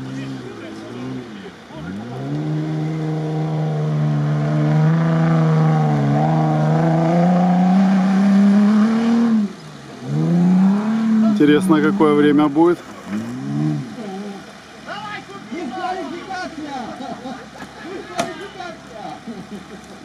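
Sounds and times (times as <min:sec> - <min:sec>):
off-road engine revving: 0:00.0 - 0:20.0.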